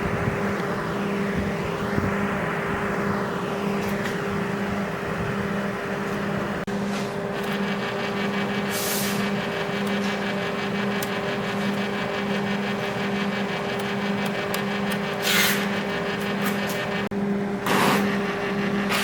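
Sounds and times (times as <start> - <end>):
cooling fan with pulsing hum: 0.0 - 19.0.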